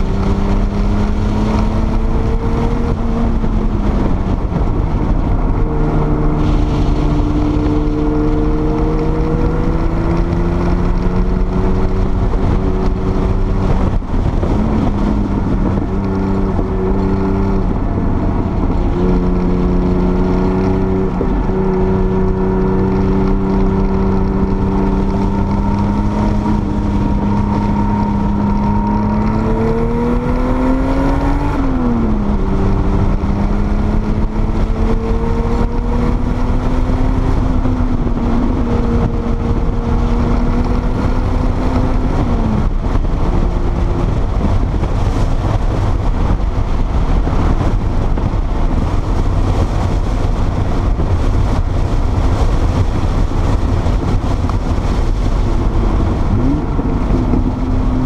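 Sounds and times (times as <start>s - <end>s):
car engine running hard: 0.0s - 58.0s
road rumble: 0.0s - 58.0s
wind noise: 0.0s - 58.0s.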